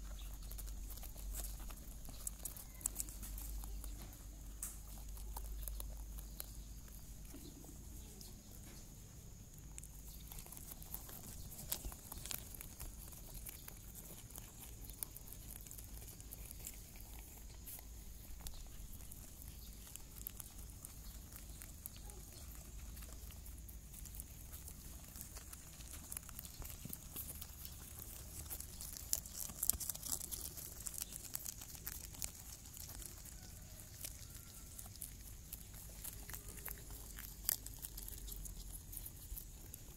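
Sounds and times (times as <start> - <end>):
rabbit kits clicking and rustling: 0.0 - 39.9.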